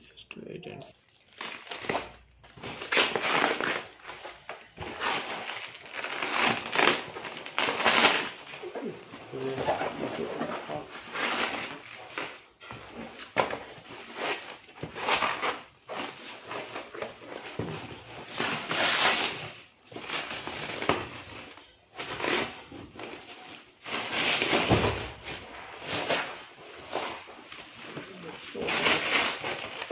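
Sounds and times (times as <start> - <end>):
plastic wrap crinkling and tearing: 0.7 - 29.9.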